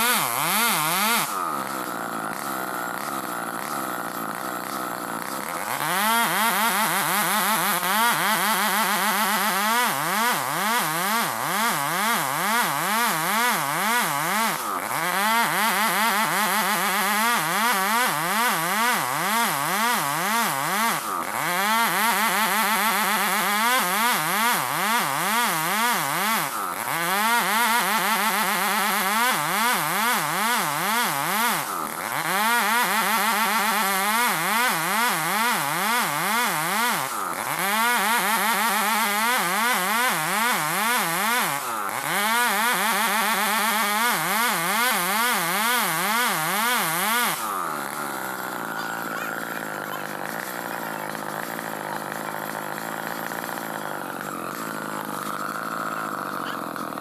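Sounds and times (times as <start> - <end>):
chainsaws cutting log: 0.0 - 57.0.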